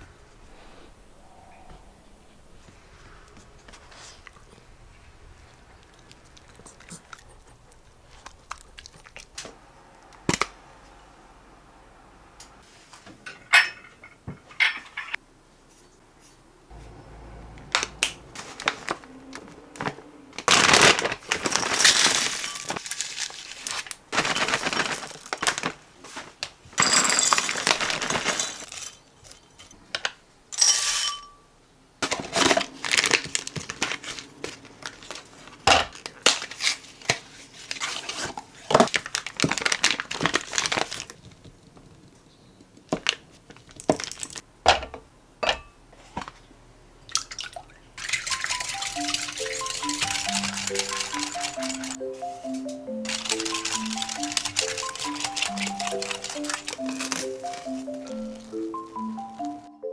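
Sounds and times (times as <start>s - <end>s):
crinkling and rustling: 2.6s - 9.6s, 12.6s - 30.2s, 32.0s - 45.0s, 48.0s - 59.7s.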